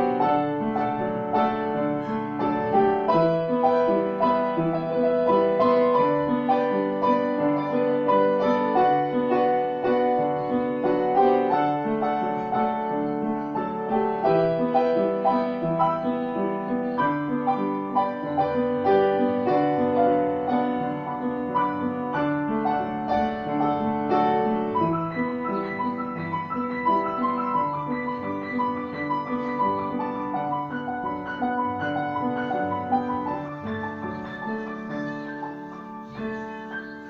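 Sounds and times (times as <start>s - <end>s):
grand piano piece: 0.0s - 37.0s.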